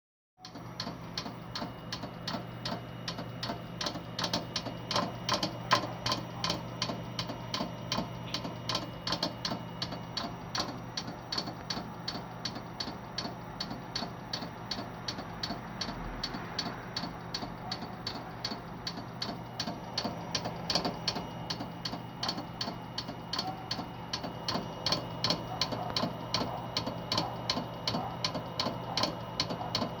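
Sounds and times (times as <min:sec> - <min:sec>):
hard disk drive clicking: 0:00.4 - 0:30.0.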